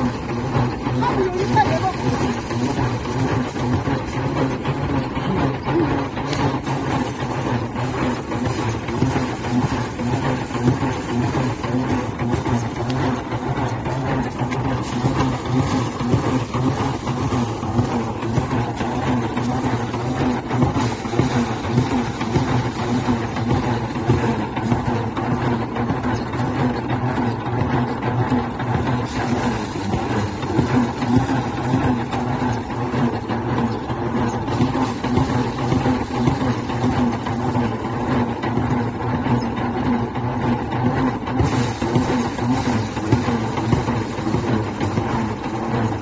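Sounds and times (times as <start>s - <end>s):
threshing machine engine hum: 0.0s - 46.0s.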